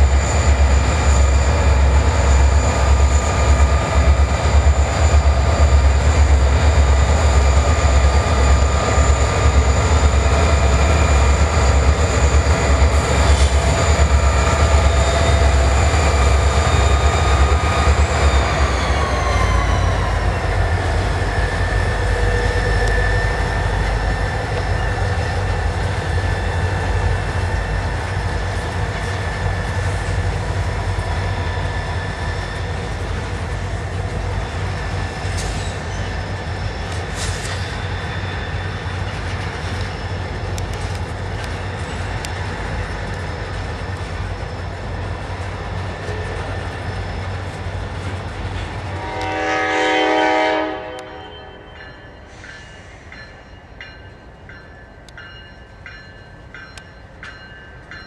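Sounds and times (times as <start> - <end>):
diesel locomotive engine rumble: 0.0 - 58.0
locomotive whine: 0.0 - 58.0.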